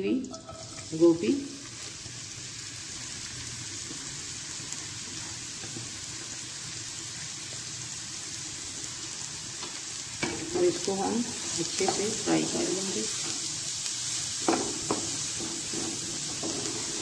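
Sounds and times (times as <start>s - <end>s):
cauliflower sizzling in oil: 0.1s - 17.0s.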